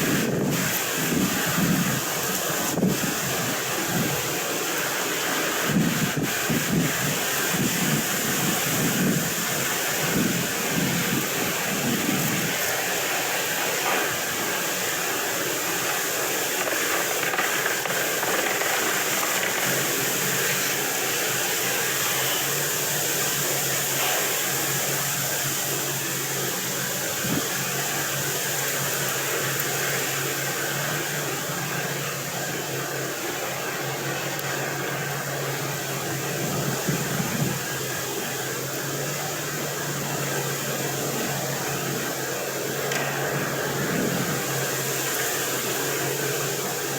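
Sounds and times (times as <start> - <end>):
wind blowing across microphone: 0.0 - 33.0, 34.0 - 46.9.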